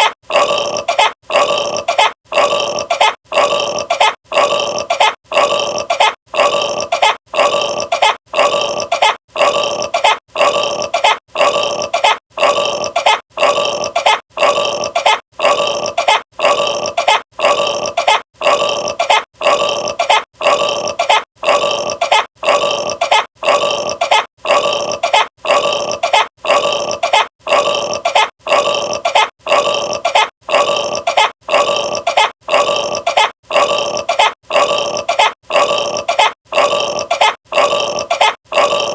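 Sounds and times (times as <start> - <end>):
person burping: 0.0 - 38.9.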